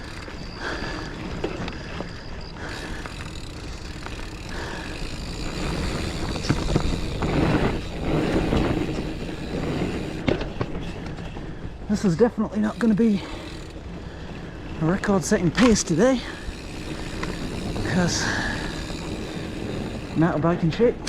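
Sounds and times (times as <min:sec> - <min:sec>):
bike rattling: 0:00.0 - 0:21.0
bike tyres rolling on dirt: 0:00.0 - 0:21.0.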